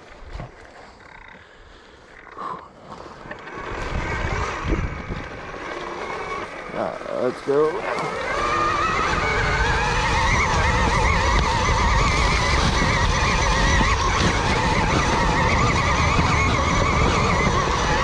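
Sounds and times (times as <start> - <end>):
electric motorbike whine: 0.0 - 18.0.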